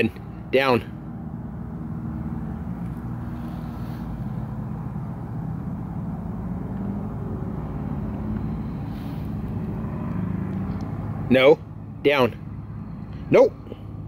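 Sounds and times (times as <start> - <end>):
low hum of traffic: 0.0 - 14.0.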